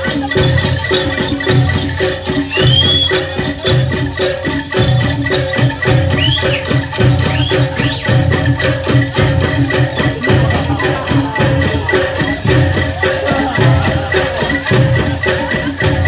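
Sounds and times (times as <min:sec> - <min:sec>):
jingling shaker-like rattle: 0:00.0 - 0:16.0.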